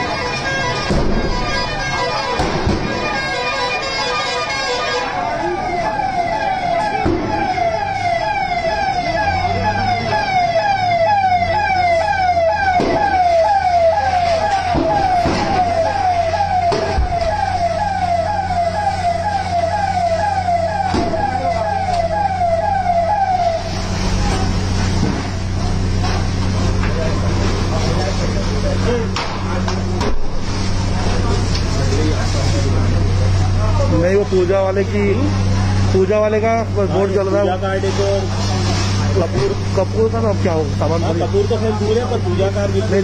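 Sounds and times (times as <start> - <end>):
fire engine siren yelp: 0.0 - 29.8, 30.4 - 43.0
low engine drone: 0.0 - 43.0.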